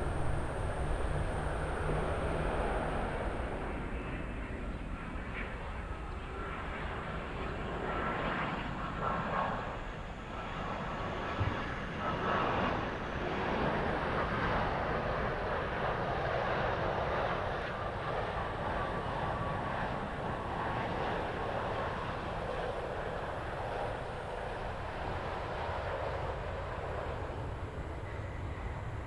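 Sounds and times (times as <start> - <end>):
faint jet engine whine: 0.0 - 29.0
jet engines rushing: 0.0 - 29.0.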